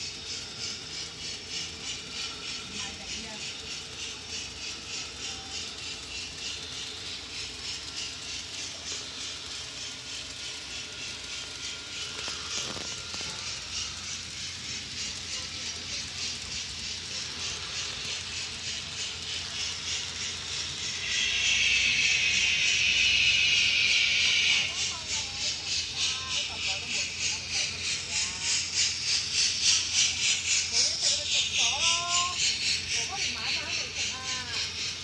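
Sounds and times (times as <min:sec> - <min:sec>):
loud hiss: 0:00.0 - 0:35.0
rhythmic hissing beat: 0:00.0 - 0:35.0.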